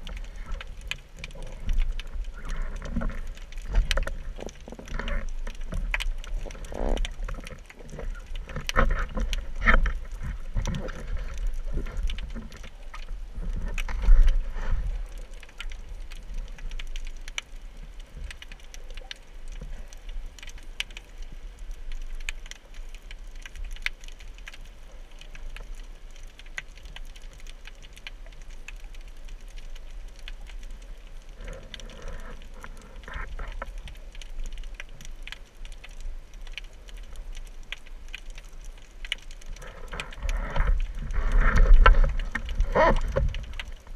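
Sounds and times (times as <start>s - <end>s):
sharp underwater clicks and crackles: 0.0s - 43.9s
underwater water movement rumble: 0.0s - 43.9s.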